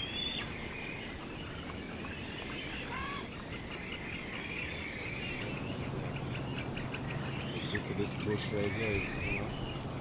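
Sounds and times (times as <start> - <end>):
birds chirping and warbling: 0.0 - 10.0
outdoor noise: 0.0 - 10.0.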